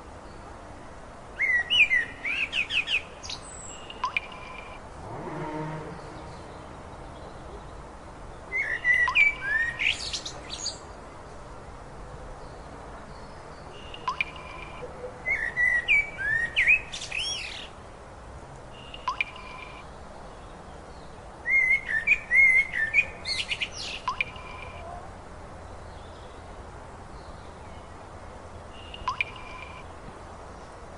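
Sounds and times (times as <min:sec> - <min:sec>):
songbird singing: 0:00.0 - 0:18.0, 0:18.6 - 0:30.9
steady low hiss: 0:00.0 - 0:30.9.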